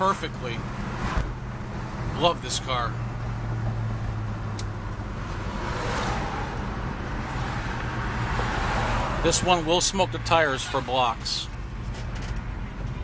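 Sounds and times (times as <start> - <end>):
low car engine drone: 0.0 - 13.0
road and wind rush: 0.0 - 13.0.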